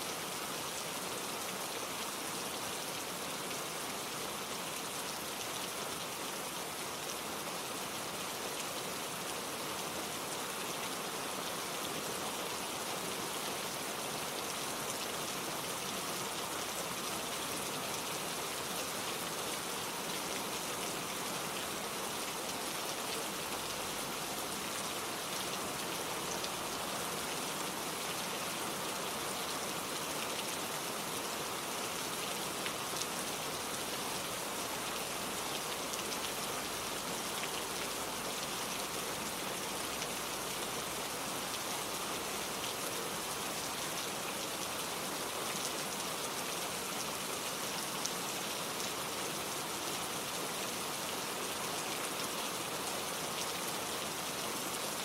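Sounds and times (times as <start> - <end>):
gentle rain patter: 0.0 - 55.0.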